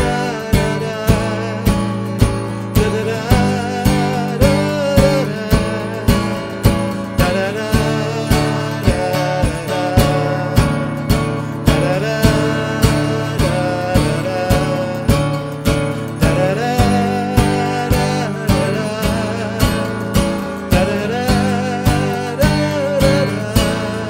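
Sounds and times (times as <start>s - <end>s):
acoustic guitar strumming: 0.0s - 24.0s
man singing: 0.0s - 24.0s.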